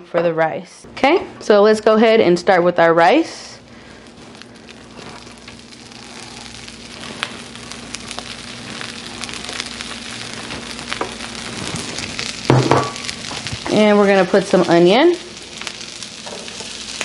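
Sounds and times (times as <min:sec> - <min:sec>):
rice sizzling on a griddle: 0:03.4 - 0:17.0.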